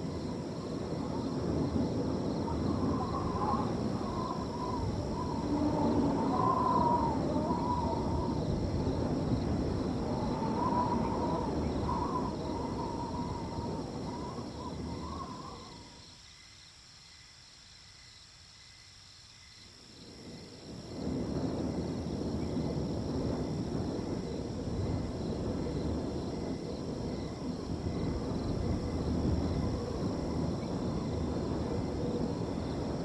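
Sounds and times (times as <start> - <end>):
gusty wind whistling: 0.0 - 16.1, 20.0 - 33.0
crickets trilling: 0.0 - 33.0.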